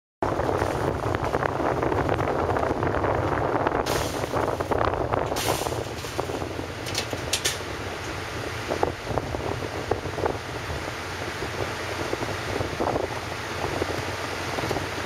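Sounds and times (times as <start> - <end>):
ship engines droning: 0.2 - 15.0
wind on microphone: 0.2 - 15.0.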